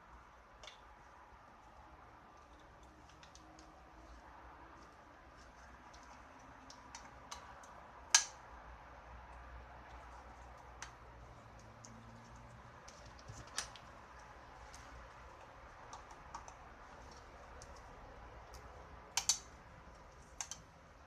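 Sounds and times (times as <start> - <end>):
clicks and taps of small objects: 0.6 - 0.9, 2.4 - 4.2, 4.8 - 8.4, 9.3 - 20.8.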